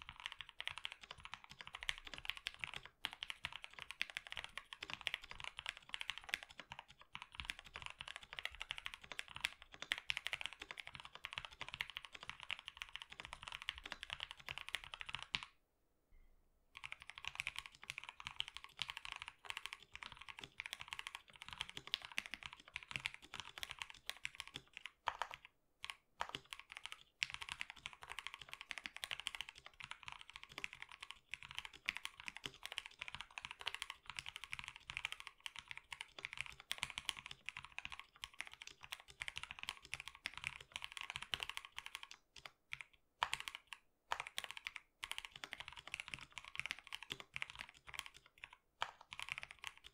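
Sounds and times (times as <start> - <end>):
mechanical keyboard typing: 0.0 - 15.5, 16.8 - 49.9.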